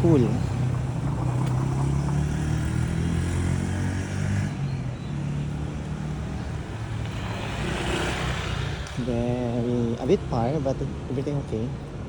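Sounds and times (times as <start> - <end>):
car passing: 0.0 - 11.9
traffic noise: 0.0 - 12.0.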